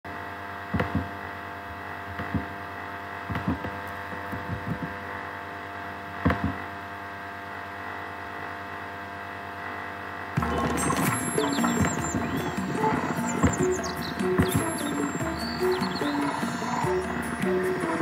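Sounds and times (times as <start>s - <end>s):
electrical hum with fixed tones: 0.1s - 18.0s.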